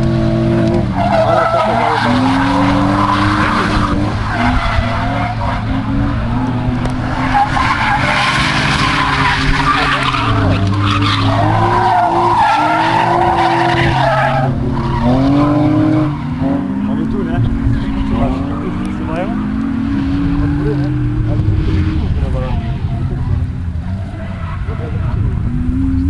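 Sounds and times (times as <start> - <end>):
car engines revving: 0.0 - 26.0
tyres skidding and squealing: 0.0 - 26.0.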